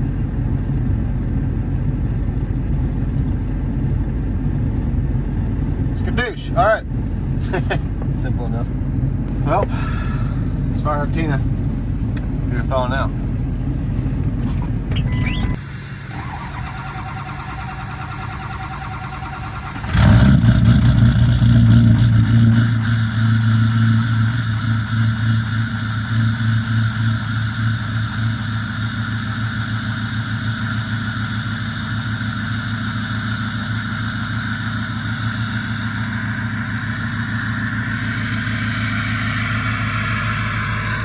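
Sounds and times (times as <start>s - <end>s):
diesel engine starting and idling: 0.0s - 41.0s.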